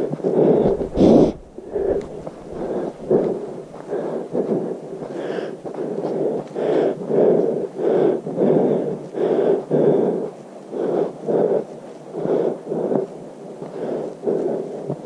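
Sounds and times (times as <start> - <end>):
person breathing heavily: 0.0 - 15.0.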